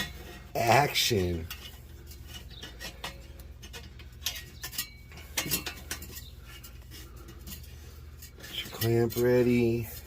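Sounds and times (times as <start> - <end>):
metallic clinks of exhaust hardware: 0.0 - 10.0.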